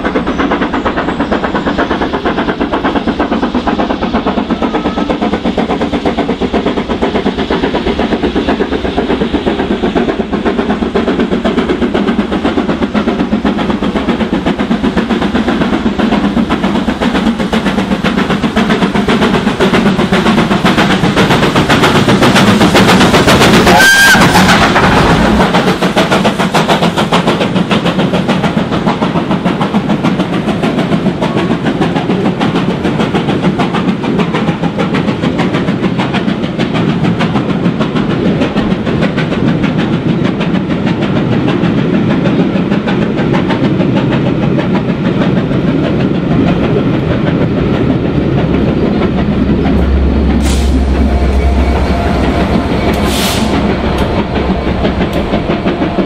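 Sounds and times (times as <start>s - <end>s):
steam locomotive exhaust chatter: 0.0s - 56.0s.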